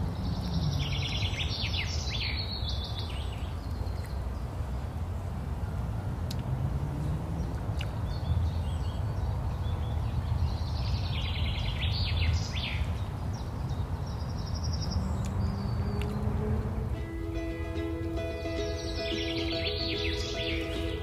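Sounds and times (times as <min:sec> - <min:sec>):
small birds chirping: 0:00.0 - 0:05.1, 0:07.0 - 0:21.0.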